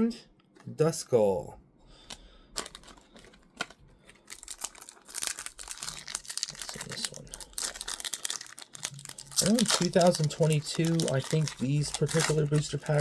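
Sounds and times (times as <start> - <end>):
wrapper crinkling: 2.6 - 13.0.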